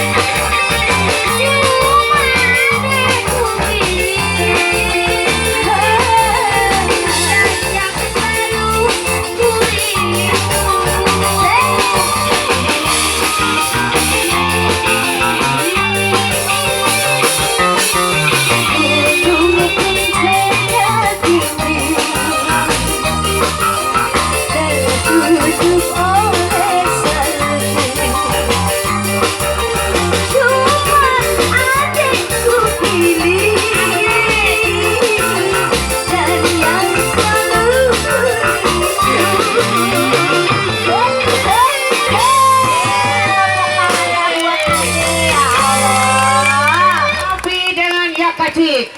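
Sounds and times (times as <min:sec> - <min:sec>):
person singing: 0:00.0 - 0:47.4
bass line: 0:00.0 - 0:47.6
guitar: 0:00.0 - 0:48.9.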